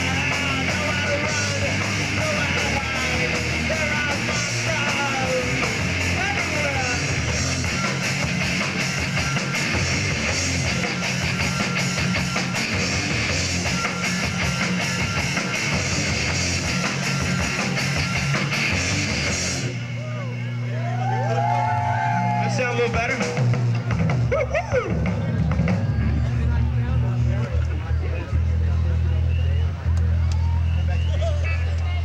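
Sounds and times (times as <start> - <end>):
electric guitars: 0.0 - 29.1
bass guitar: 0.0 - 32.0
drums: 0.0 - 32.0.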